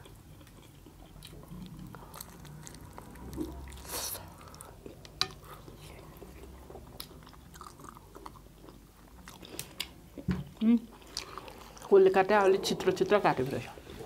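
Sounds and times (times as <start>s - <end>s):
people chewing and biting: 0.0s - 10.3s, 10.9s - 11.9s.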